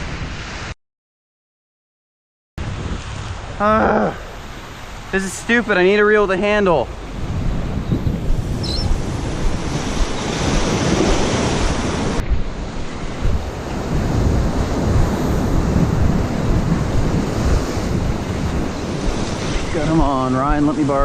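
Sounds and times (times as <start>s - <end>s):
ocean surf washing: 0.0s - 0.8s, 2.6s - 21.0s
wind rumbling on microphone: 2.6s - 21.0s.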